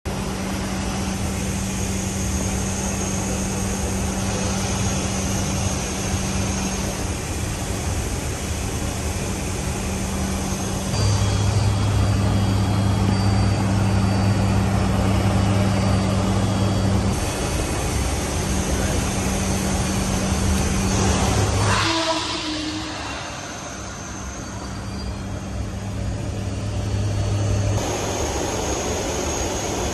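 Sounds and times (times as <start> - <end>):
deeper hum: 0.1 - 29.9
turboprop engines humming: 0.1 - 29.9.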